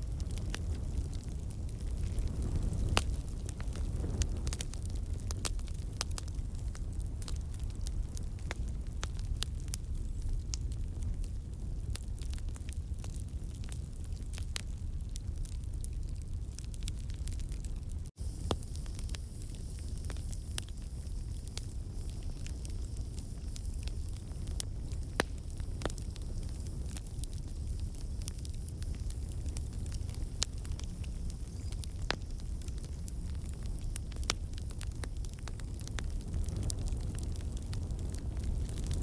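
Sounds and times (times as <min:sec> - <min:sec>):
campfire flame rumble: 0:00.0 - 0:39.0
logs crackling and popping: 0:00.0 - 0:39.0.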